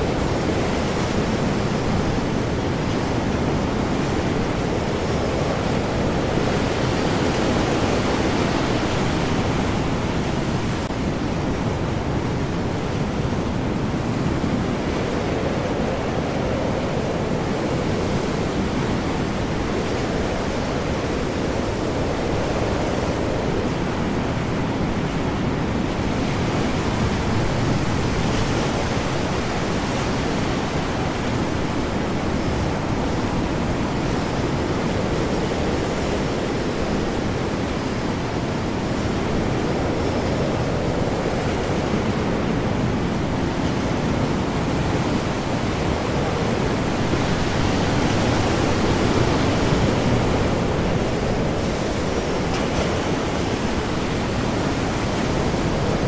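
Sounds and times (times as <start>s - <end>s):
heavy waves surging: 0.0s - 56.0s
high wind: 0.0s - 56.0s.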